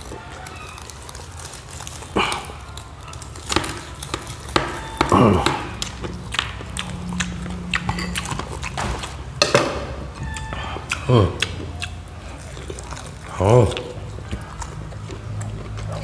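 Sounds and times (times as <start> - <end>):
crunching and chewing: 0.0 - 16.0.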